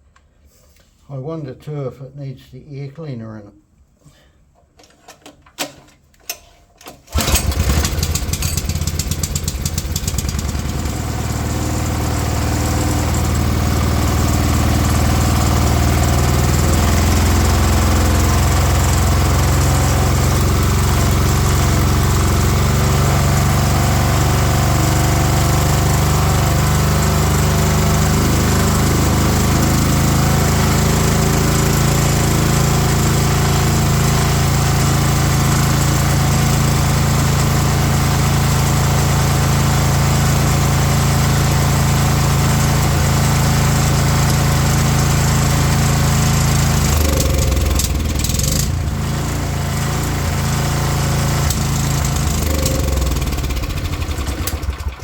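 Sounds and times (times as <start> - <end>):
small petrol engine running: 7.1 - 55.0.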